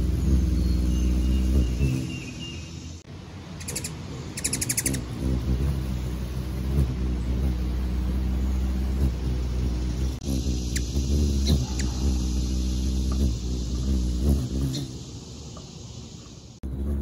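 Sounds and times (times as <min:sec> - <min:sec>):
hummingbird wings humming: 0:00.0 - 0:17.0
rapid high chittering: 0:00.0 - 0:17.0.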